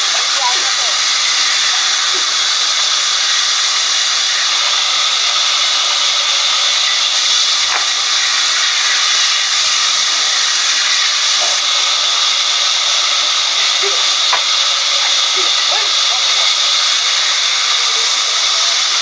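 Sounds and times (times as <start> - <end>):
band saw cutting wood: 0.0 - 19.0.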